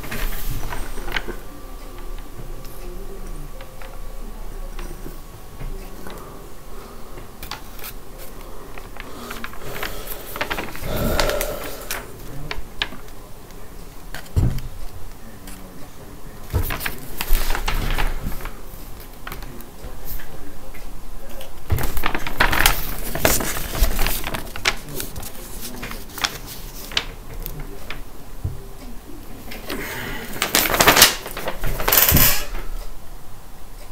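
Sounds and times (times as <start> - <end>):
paper rustling and crackling: 0.0 - 4.0, 4.7 - 20.5, 21.3 - 28.6, 29.2 - 32.8.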